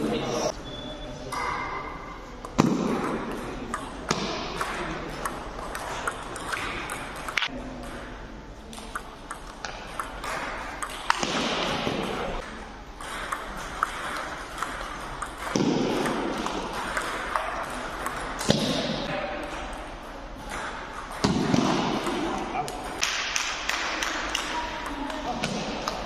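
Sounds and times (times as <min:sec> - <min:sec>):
ball bouncing on table: 0:02.4 - 0:26.0
ping pong ball clicking off paddles: 0:02.4 - 0:26.0.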